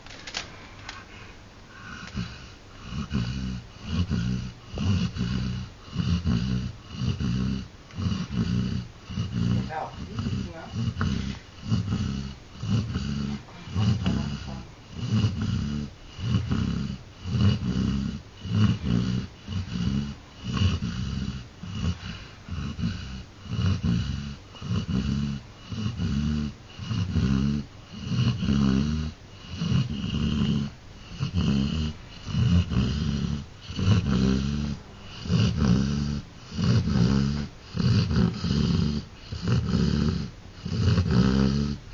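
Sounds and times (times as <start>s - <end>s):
dog snoring: 0.0s - 41.9s.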